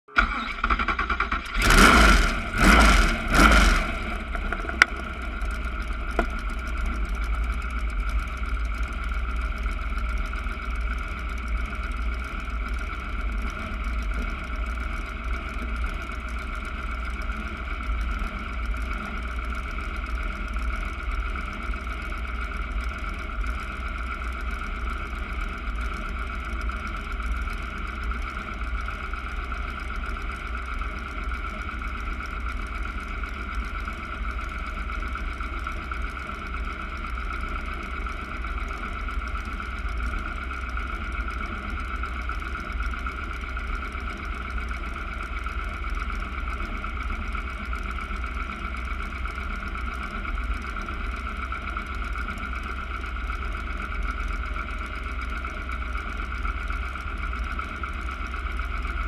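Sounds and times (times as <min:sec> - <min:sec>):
engine revving and idling: 0:00.0 - 0:59.0.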